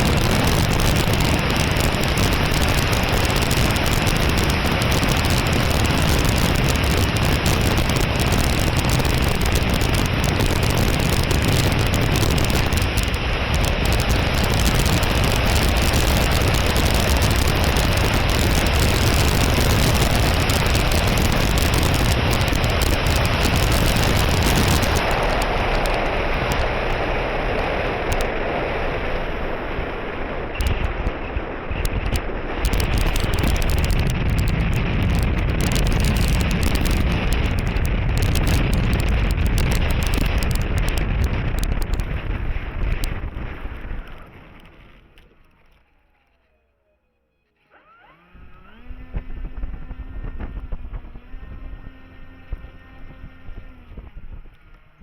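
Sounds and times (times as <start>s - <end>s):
wind buffeting microphone: 0.0s - 45.2s.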